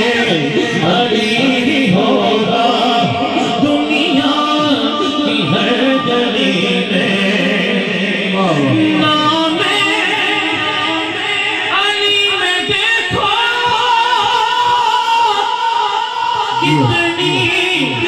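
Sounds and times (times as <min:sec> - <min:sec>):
person singing devotional song: 0:00.0 - 0:18.0.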